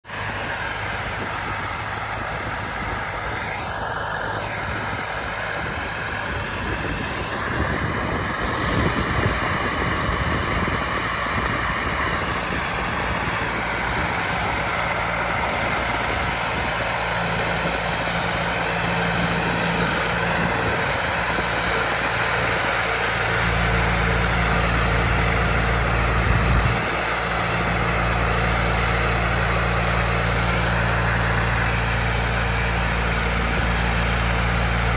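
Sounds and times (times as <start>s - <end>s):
snowblower throwing snow: 0.0s - 34.9s
tractor engine running under load: 0.0s - 34.9s.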